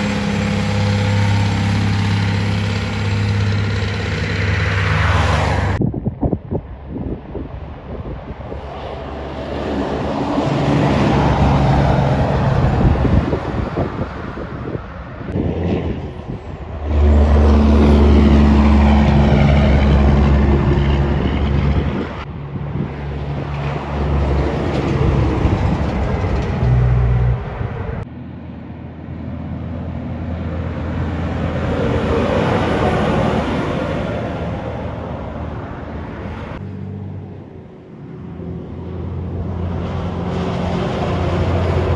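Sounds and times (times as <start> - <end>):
diesel trucks driving by: 0.0 - 5.8, 7.5 - 41.9.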